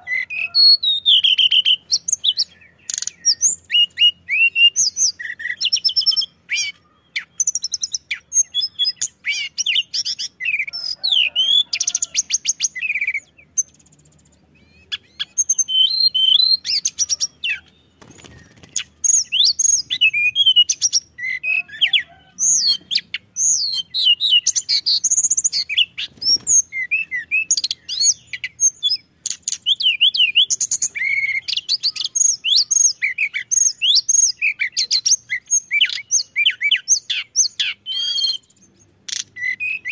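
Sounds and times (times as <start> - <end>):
songbird singing chirps and trills: 0.0 - 39.9.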